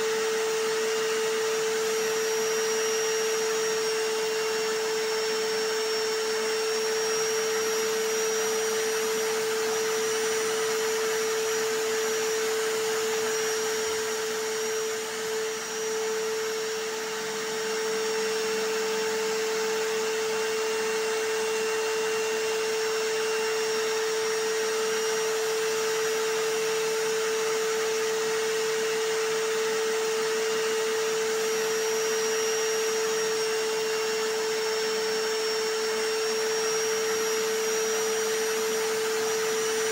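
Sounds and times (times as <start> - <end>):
hammer drill: 0.0 - 39.9
vacuum cleaner running: 0.0 - 39.9.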